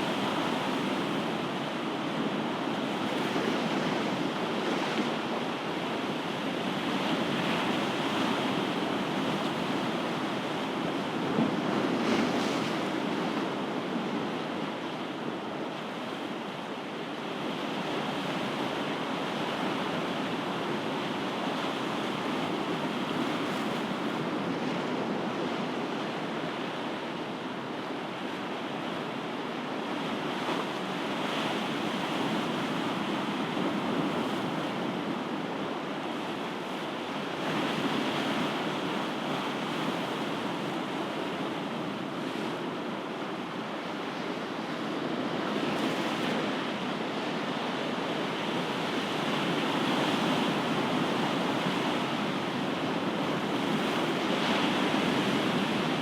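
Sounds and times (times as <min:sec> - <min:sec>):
ocean surf washing ashore: 0:00.0 - 0:56.0.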